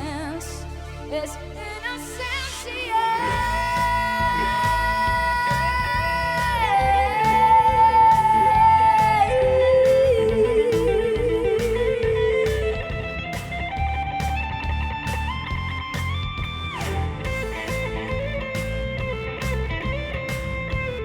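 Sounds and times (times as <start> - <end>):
drum beat: 3.4 - 21.0.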